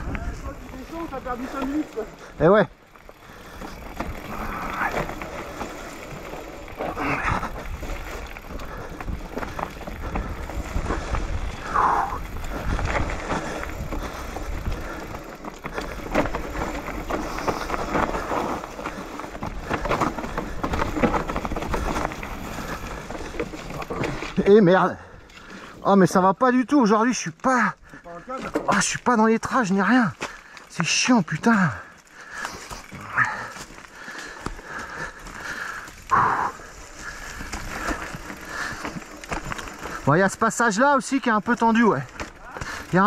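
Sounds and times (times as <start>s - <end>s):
bike rattling over bumps: 0.0s - 43.0s
bike tyres rolling over dirt: 0.0s - 43.0s.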